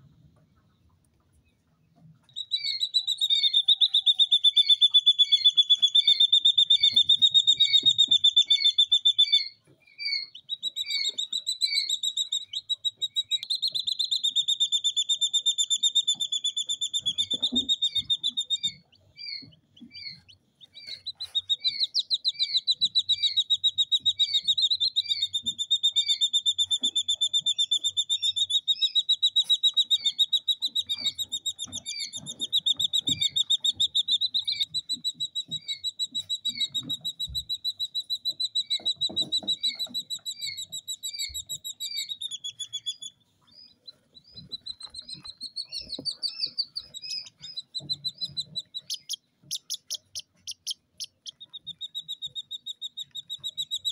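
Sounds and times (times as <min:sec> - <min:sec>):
chicks peeping: 0:00.0 - 0:53.9
quail chicks trilling: 0:00.0 - 0:53.9.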